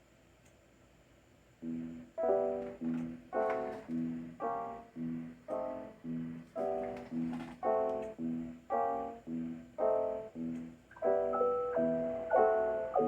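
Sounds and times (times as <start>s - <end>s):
synthesized piano-like notes: 1.6s - 13.0s.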